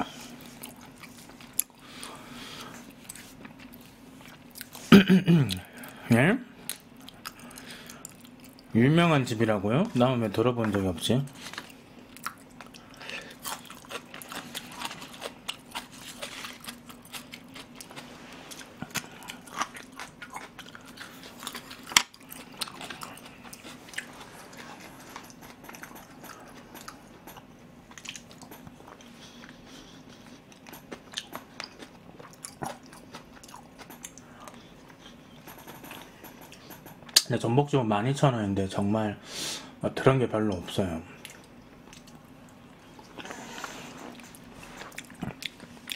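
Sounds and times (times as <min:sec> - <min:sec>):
wet chewing sounds: 0:00.0 - 0:06.0, 0:06.6 - 0:08.7, 0:11.3 - 0:37.3, 0:41.2 - 0:45.9.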